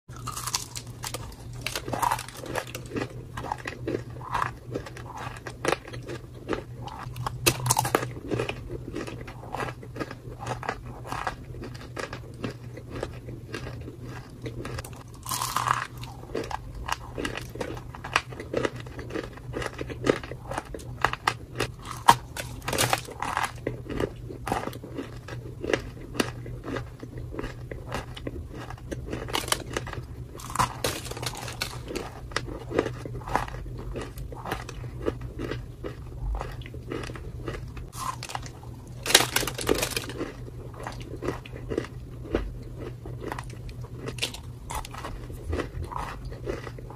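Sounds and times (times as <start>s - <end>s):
clay being chewed with crunches: 0.1s - 46.9s
faint low hum: 0.1s - 46.9s.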